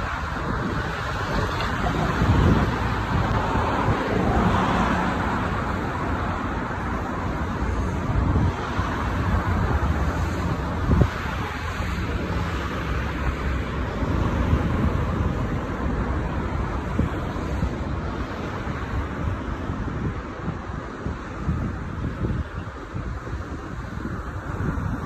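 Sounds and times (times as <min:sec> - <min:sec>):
low traffic rumble: 0:00.0 - 0:25.0
wind buffeting microphone: 0:00.0 - 0:25.0.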